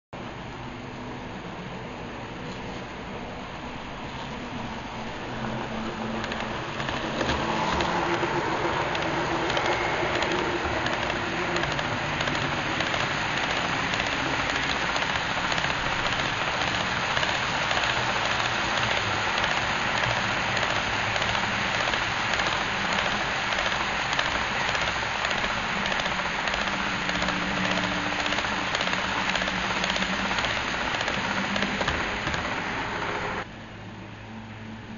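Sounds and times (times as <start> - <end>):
model locomotive hum: 0.2 - 34.9
model train wheels rattling on rail: 3.8 - 33.5.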